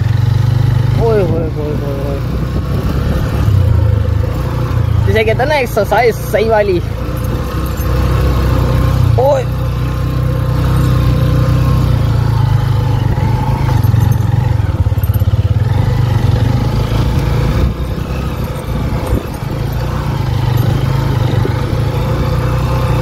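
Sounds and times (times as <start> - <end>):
motorcycle engine under load: 0.0 - 23.0.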